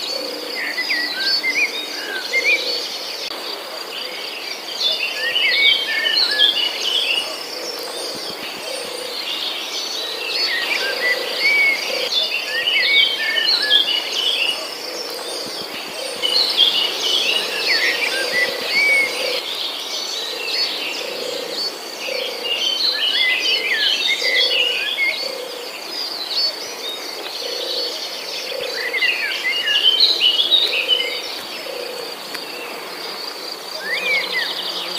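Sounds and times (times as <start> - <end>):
insects droning: 0.0 - 34.9
songbird chirping: 0.0 - 34.9.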